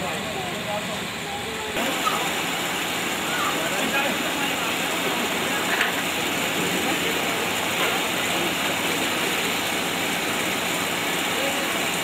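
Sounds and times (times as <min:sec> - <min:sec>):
electric fans rushing: 0:00.0 - 0:12.0.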